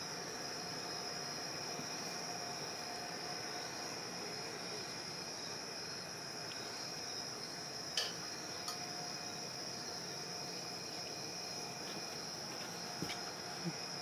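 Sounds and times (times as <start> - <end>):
faint high whine: 0.0 - 14.0
steady low hiss: 0.0 - 14.0.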